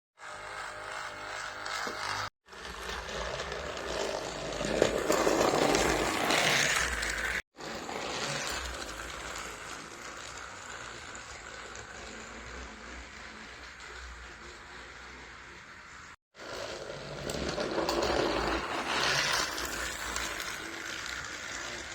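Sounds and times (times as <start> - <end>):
toy train whirring and rattling: 0.2 - 21.9.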